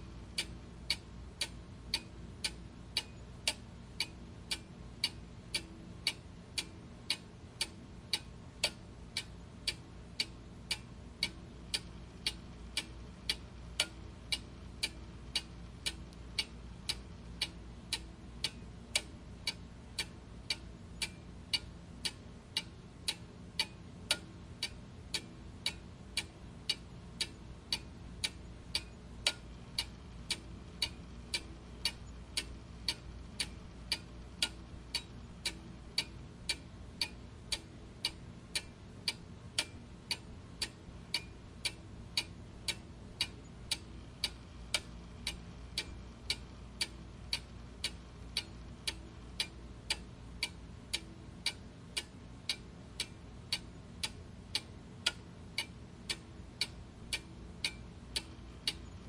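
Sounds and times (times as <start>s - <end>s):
mechanical clock ticking: 0.0s - 59.0s.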